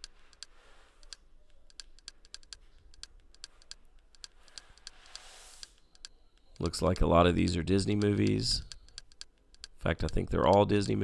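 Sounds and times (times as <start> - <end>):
keyboard keys clicking: 0.0 - 11.0.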